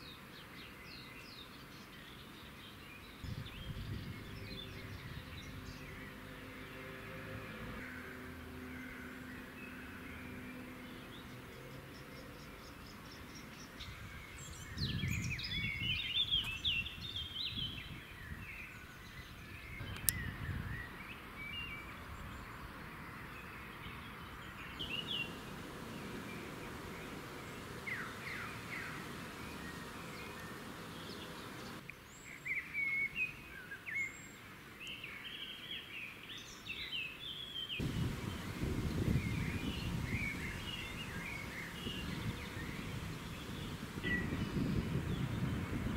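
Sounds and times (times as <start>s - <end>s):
small birds chirping: 0.0s - 6.9s, 8.8s - 45.9s
low background noise: 0.0s - 45.9s.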